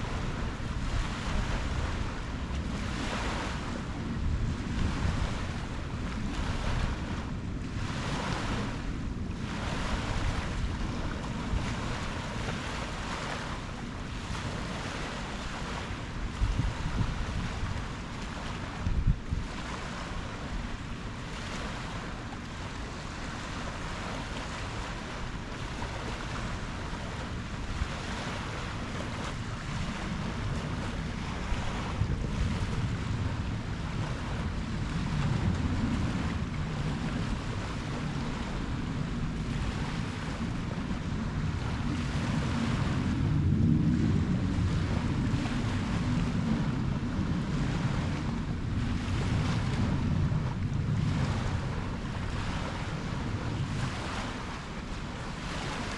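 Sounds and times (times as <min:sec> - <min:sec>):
ocean waves breaking: 0:00.0 - 0:55.9
wind buffeting microphone: 0:00.0 - 0:55.9.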